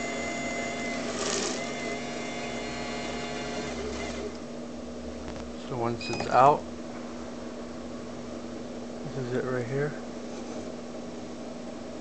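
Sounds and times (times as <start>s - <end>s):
vending machine motor hum: 0.0s - 12.0s.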